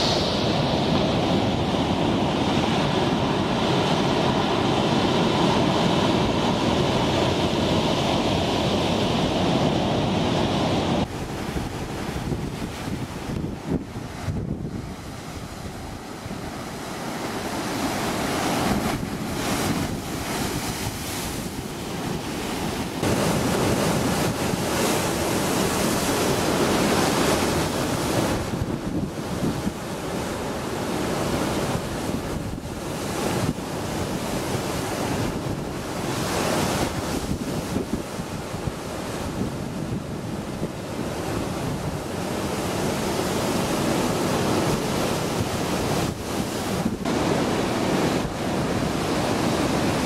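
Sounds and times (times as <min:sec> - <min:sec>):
sea waves washing: 0:00.0 - 0:50.0
wind buffeting microphone: 0:00.0 - 0:50.0.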